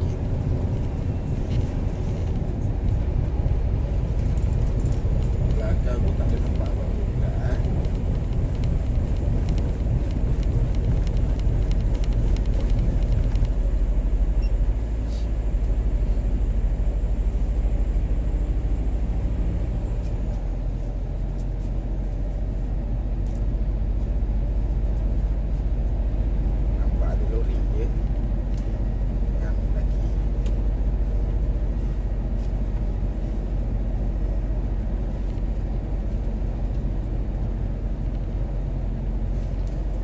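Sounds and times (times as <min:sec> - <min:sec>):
truck engine drone in cab: 0:00.0 - 0:40.0.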